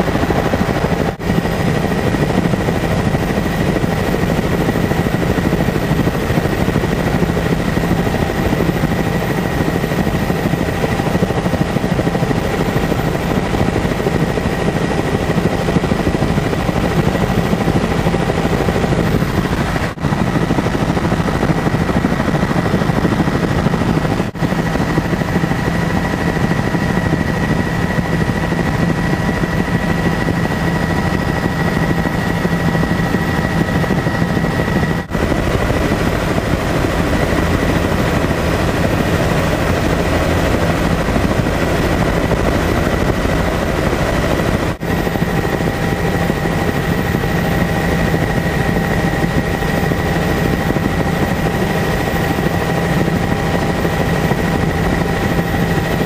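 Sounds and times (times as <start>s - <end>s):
helicopter rotor and engine: 0.0s - 56.0s.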